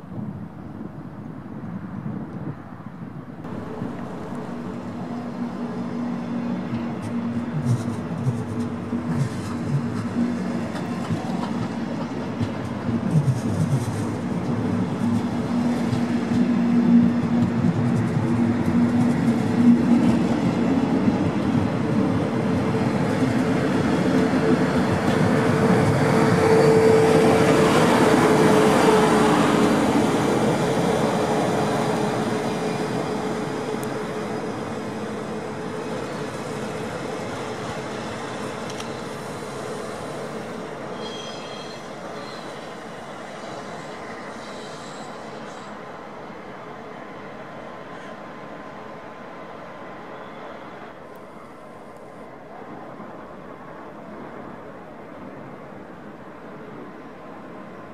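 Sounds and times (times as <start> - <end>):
locomotive hum: 3.2 - 57.9
train wheels rumbling on rails: 3.4 - 57.9.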